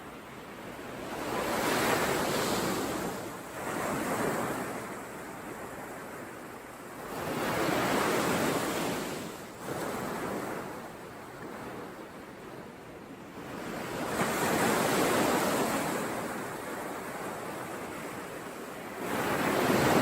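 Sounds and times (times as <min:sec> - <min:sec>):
ocean waves breaking on shore: 0:00.0 - 0:20.0.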